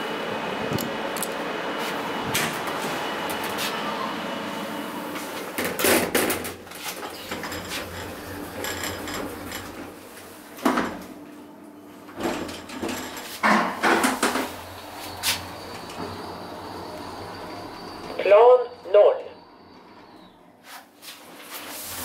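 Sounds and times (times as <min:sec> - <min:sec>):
elevator doors closing: 0:02.2 - 0:20.6.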